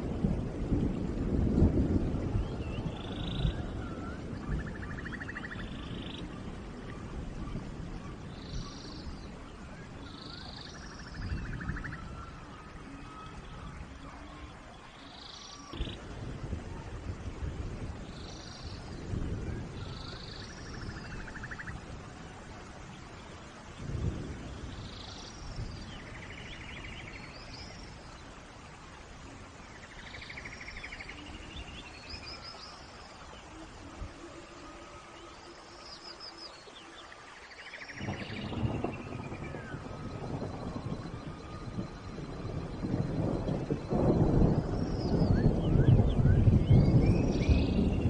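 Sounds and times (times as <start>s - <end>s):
steady rain hiss: 0.0s - 48.0s
birds chirping and trilling: 2.3s - 16.0s, 17.8s - 21.9s, 22.8s - 28.4s, 29.4s - 48.0s.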